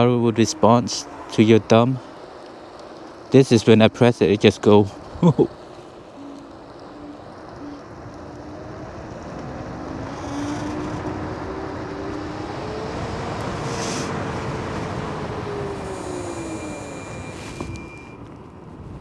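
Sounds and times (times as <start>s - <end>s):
electric scooter motor whining: 0.0s - 19.0s
wind and road noise: 0.0s - 19.0s.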